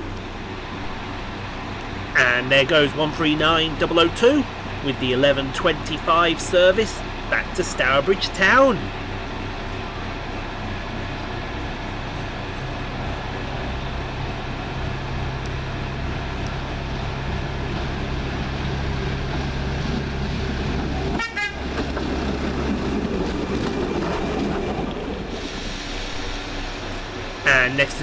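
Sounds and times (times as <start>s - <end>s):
railcar engine hum: 0.0s - 28.0s
wheels rumbling on track: 0.0s - 28.0s.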